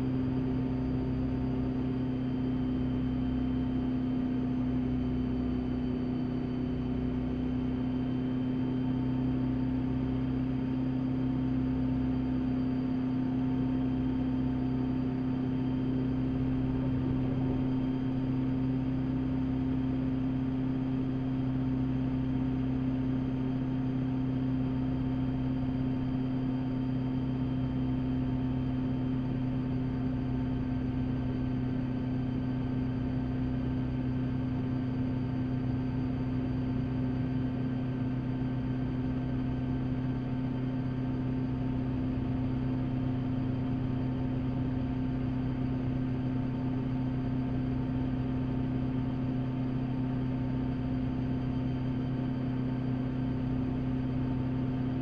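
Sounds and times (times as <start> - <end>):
helicopter engine and rotors droning: 0.0 - 55.0.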